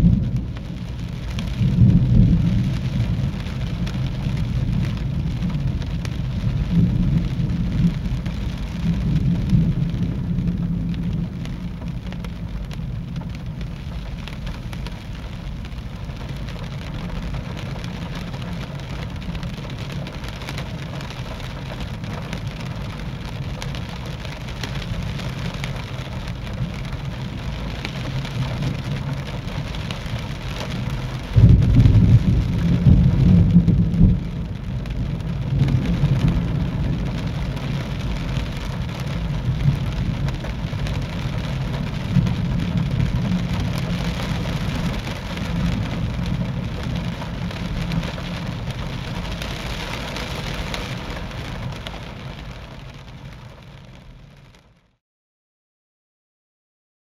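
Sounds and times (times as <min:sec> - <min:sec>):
thunder rumbling: 0:00.0 - 0:52.9
rain falling steadily: 0:00.0 - 0:55.0.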